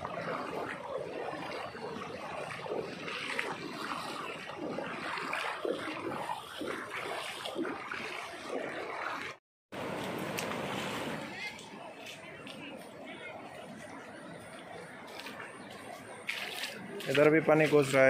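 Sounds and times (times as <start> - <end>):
floodwater rushing: 0.0 - 18.0
people wading through water: 0.0 - 18.0.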